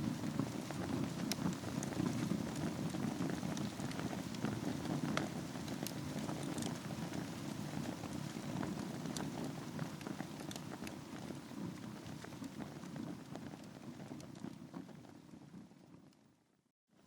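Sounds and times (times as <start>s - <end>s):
fire flames rumbling: 0.0s - 16.1s
fire crackling and popping: 0.0s - 16.2s.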